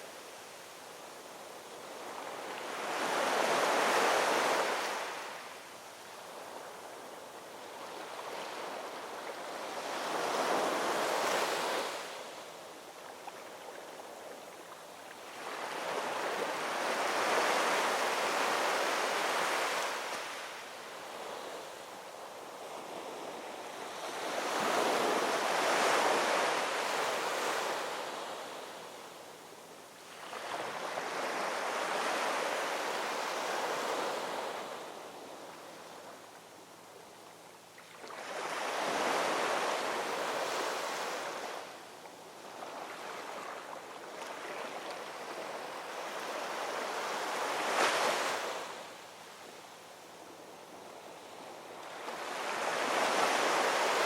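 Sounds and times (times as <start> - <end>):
ocean waves breaking on shore: 1.3 - 5.6, 6.2 - 29.5, 30.1 - 36.0, 37.8 - 49.4, 50.6 - 54.0.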